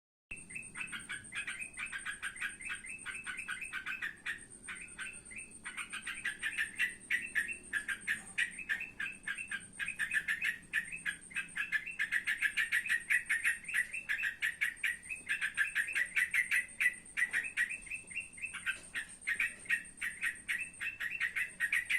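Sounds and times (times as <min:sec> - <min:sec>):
bird chattering call: 0:00.3 - 0:21.9.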